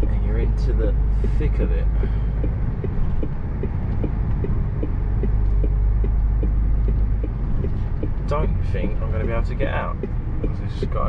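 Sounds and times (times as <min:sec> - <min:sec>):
lorry engine running: 0:00.0 - 0:11.0
turn indicator ticking: 0:00.0 - 0:11.0.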